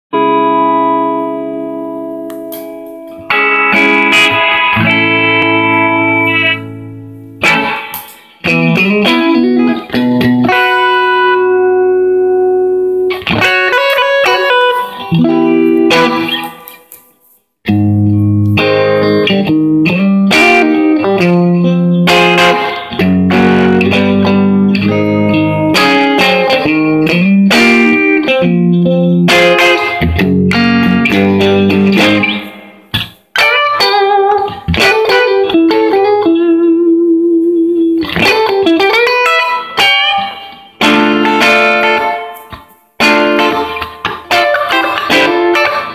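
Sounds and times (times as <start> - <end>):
electric guitar chords and runs: 0.1 - 16.8, 17.7 - 45.9.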